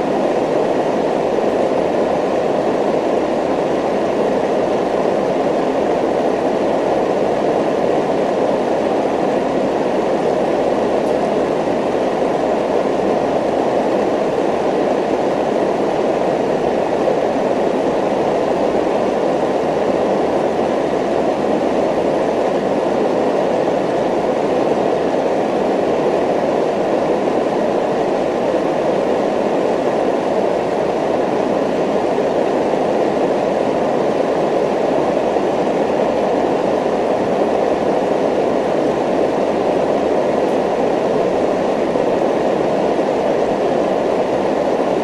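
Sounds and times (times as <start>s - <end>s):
steady rumbling noise: 0.0s - 45.0s.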